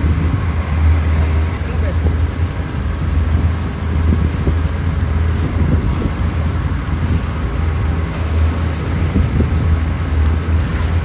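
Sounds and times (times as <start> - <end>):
boat engine droning: 0.0 - 11.0
wind buffeting microphone: 0.0 - 11.0.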